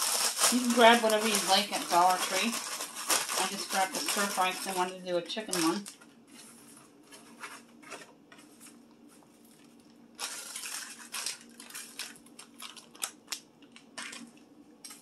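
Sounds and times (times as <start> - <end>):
plastic bag crinkling and tearing: 0.0 - 15.0.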